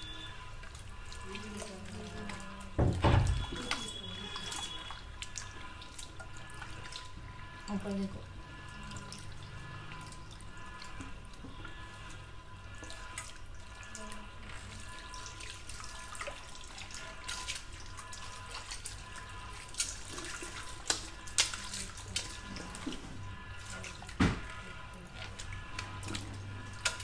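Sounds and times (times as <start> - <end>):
water splashing and dripping: 0.0 - 27.0.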